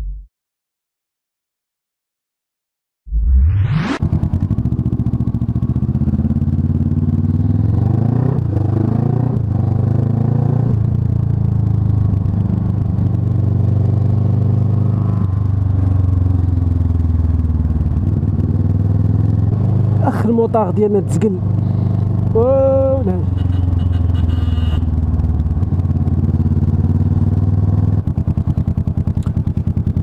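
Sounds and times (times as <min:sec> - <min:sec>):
motorcycle engine running: 0:04.0 - 0:30.0.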